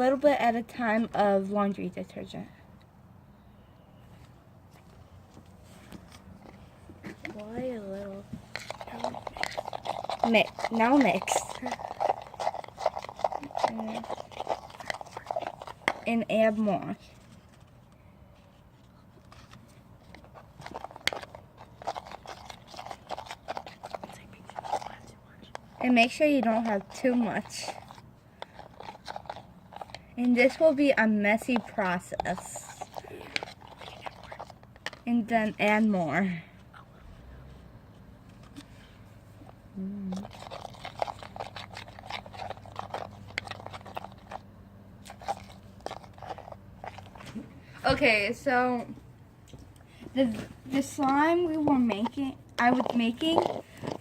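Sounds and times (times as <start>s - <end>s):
spoon stirring sticky mix: 5.8s - 18.0s, 18.8s - 36.0s, 38.3s - 49.8s, 50.6s - 54.0s.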